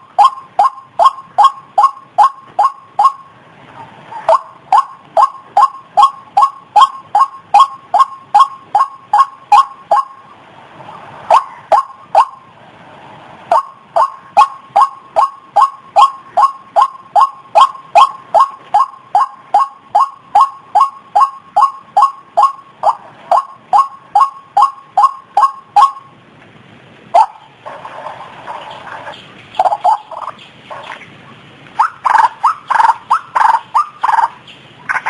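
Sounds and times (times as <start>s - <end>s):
waterhen calling: 0.0s - 12.6s, 13.4s - 26.2s, 27.1s - 35.0s.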